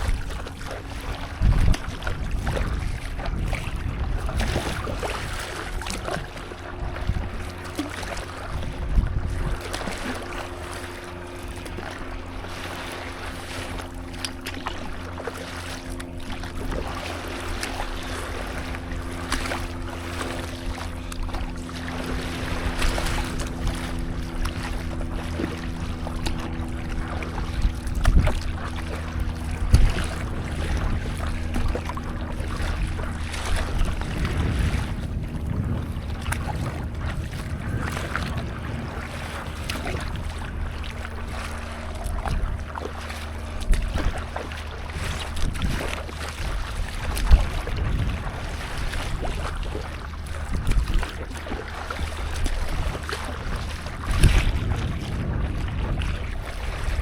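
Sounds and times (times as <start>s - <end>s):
sea water splashing: 0.0s - 57.0s
steady low hum: 0.0s - 57.0s
wind on microphone: 0.0s - 57.0s.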